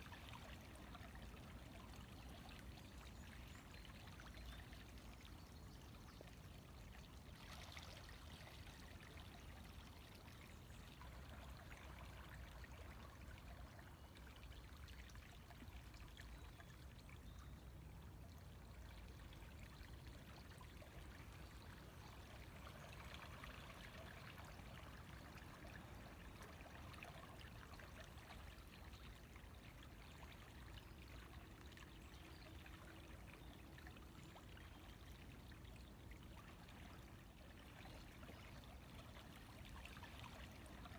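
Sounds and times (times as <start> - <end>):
river water flowing: 0.1 - 40.9.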